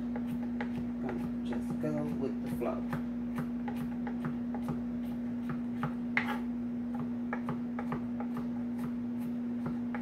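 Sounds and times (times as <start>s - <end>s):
knife chopping on cutting board: 0.0s - 10.0s
steady low hum: 0.0s - 10.0s.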